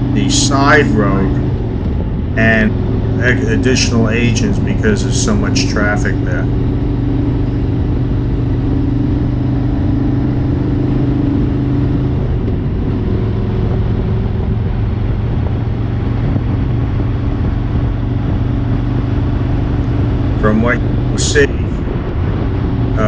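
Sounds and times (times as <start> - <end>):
motorcycle engine cruising: 0.0 - 23.0
wind on microphone: 0.0 - 23.0.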